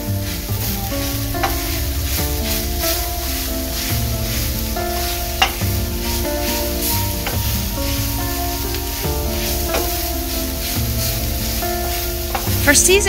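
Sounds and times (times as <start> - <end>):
background music with bass line: 0.0 - 13.0
food sizzling in a frying pan: 0.0 - 13.0.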